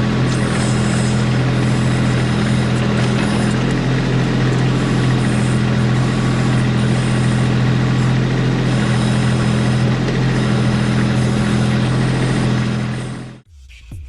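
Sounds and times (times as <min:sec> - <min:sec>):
tractor diesel engine running: 0:00.0 - 0:13.5.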